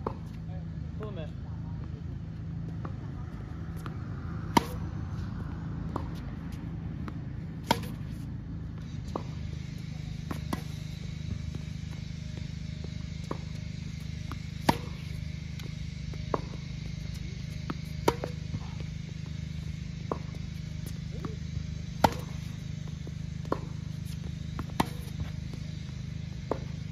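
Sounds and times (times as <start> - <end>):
low hum: 0.0 - 26.9
tennis ball bounces: 1.8 - 26.9
racket strings hitting tennis ball: 3.8 - 6.2, 7.0 - 8.2, 9.0 - 26.9.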